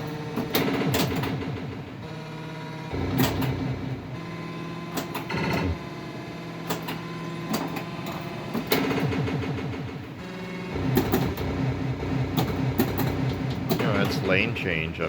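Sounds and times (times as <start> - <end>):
pinball flippers and bumpers clacking: 0.0 - 2.0, 3.0 - 4.0, 4.9 - 5.8, 6.6 - 14.7.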